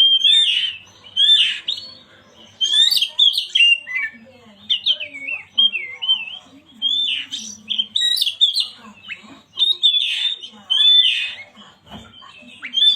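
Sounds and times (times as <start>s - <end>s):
magpie-robin singing: 0.0s - 12.9s.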